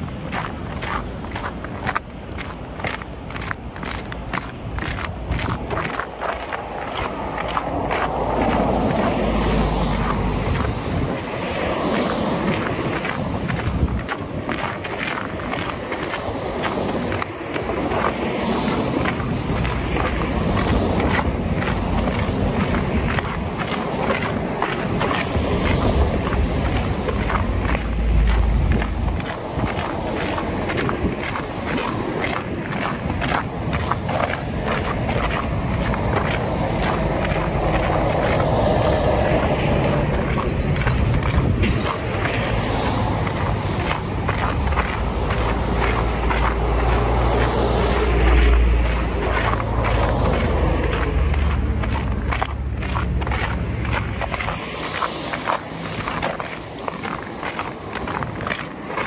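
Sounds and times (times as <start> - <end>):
steady low rumble: 0.0 - 58.9
footsteps of person walking: 0.0 - 59.0.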